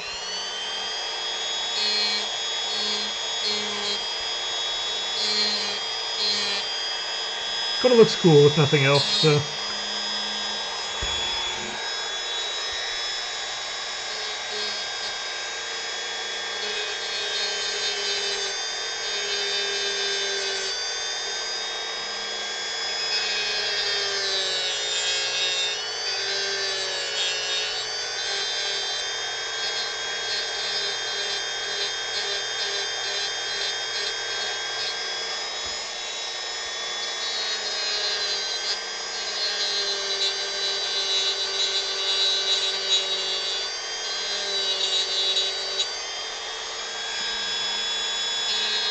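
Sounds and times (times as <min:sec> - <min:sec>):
rotary tool whining carving wood: 0:00.0 - 0:48.9.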